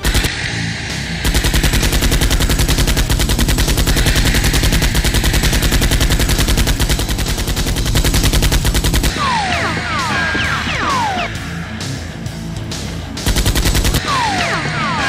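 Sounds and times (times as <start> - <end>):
automatic gunfire: 0.0 - 0.6, 1.2 - 11.4, 13.2 - 15.0.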